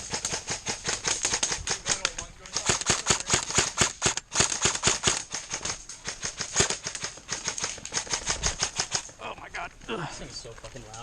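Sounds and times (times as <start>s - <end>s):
airsoft rifle firing shots: 0.0s - 9.1s.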